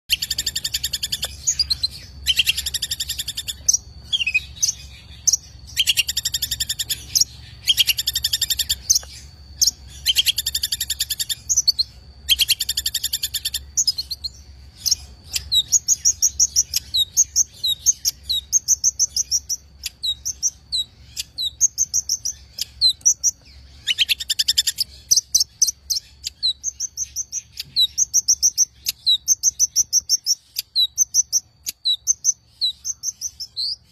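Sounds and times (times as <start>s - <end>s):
bird singing scratchy chatter: 0.1s - 33.9s
bird whistled notes: 0.1s - 33.9s.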